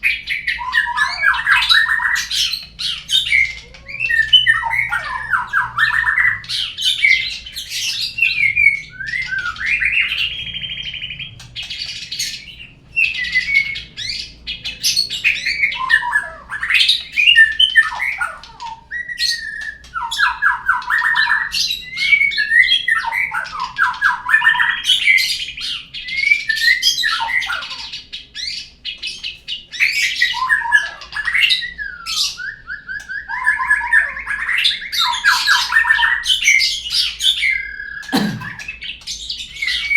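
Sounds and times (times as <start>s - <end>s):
bird song whistles and trills: 0.0s - 39.9s.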